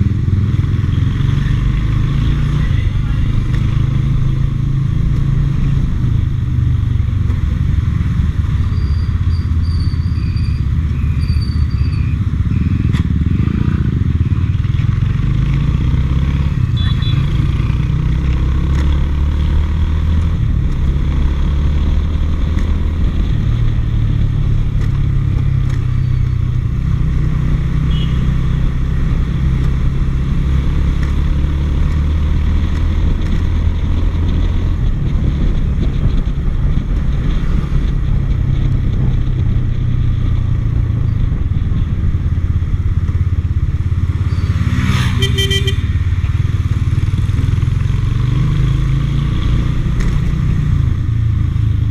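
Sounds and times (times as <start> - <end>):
motorbike engine rumbling: 0.0 - 51.9.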